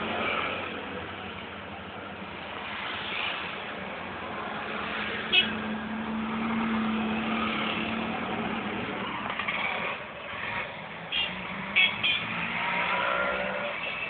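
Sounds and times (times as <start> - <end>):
road noise: 0.0 - 14.0
vehicle engines: 0.0 - 14.0.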